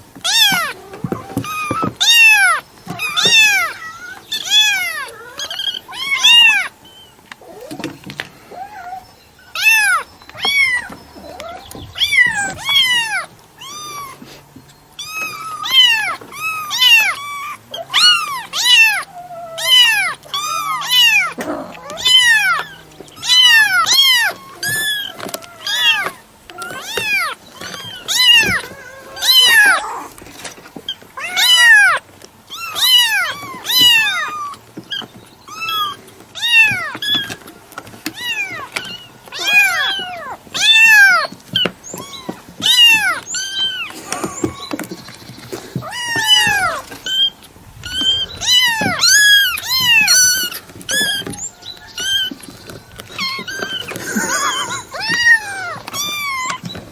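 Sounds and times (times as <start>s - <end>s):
cat meowing: 0.2s - 6.8s, 8.5s - 14.2s, 15.0s - 30.1s, 31.2s - 37.4s, 38.0s - 44.9s, 45.8s - 56.8s.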